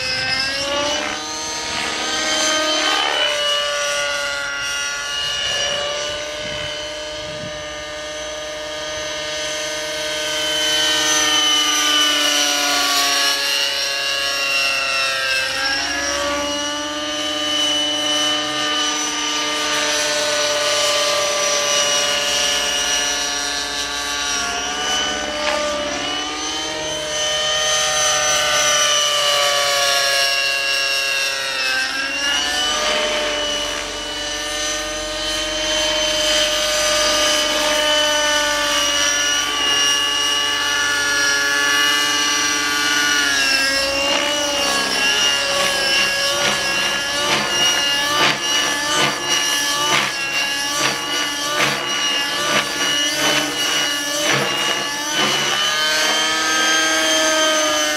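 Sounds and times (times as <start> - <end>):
model helicopter engine whine: 0.0 - 57.9.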